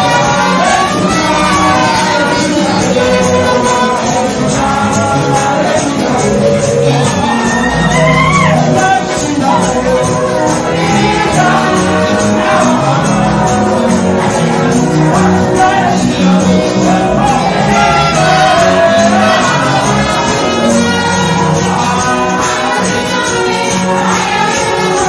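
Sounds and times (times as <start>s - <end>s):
backing music: 0.0s - 25.0s
girl and young man singing: 0.0s - 25.0s.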